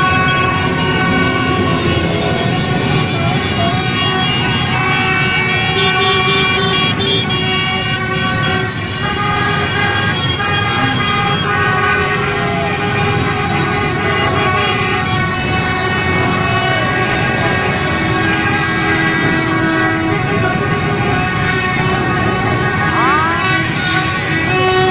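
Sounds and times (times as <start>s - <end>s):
traffic noise: 0.0s - 24.9s
vehicle horns honking: 0.0s - 24.9s.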